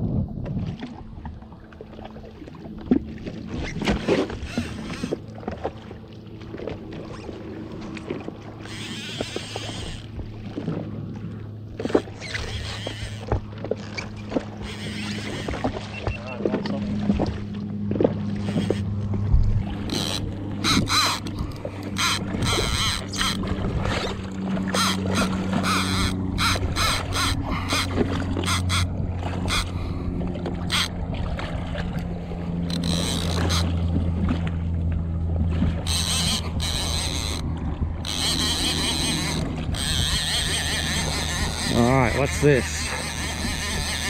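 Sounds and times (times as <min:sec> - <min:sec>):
water splashing against hull: 0:00.0 - 0:44.0
jet ski engine idling: 0:04.4 - 0:44.0.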